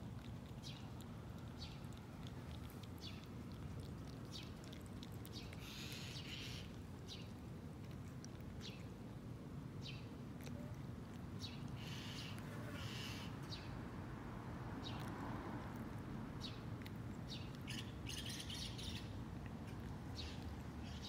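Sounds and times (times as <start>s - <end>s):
low outdoor hum: 0.0s - 21.0s
small birds chirping: 0.1s - 9.2s, 9.8s - 13.9s, 14.8s - 15.2s, 15.8s - 21.0s.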